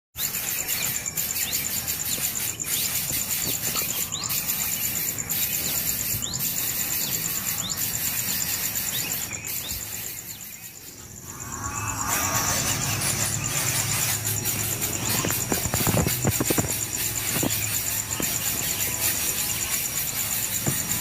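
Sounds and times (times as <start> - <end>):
high-pitched insect trill: 0.2 - 21.0
rising bird chirps: 0.2 - 21.0.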